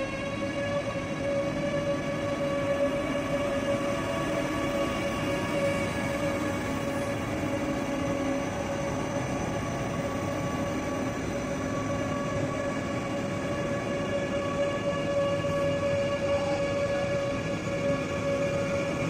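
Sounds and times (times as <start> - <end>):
train moving slowly with whine: 0.0 - 19.0.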